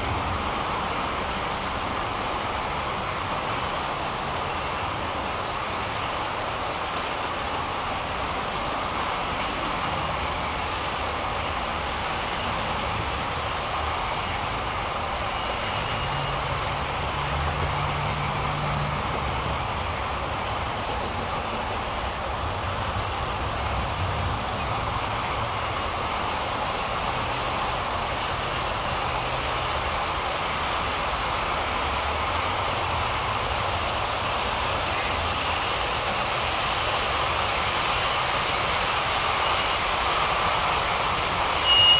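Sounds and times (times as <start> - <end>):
model train wheels rumbling: 0.0 - 41.9.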